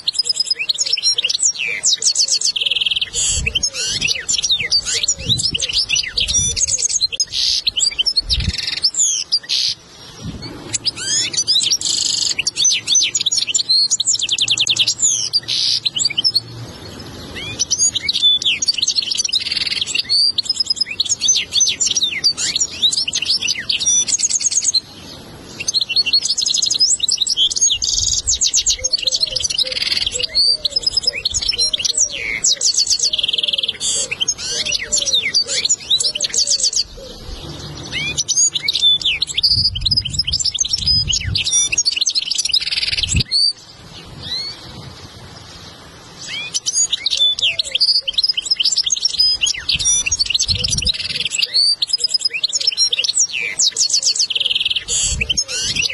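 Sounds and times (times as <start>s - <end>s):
goldfinch singing: 0.0s - 55.9s.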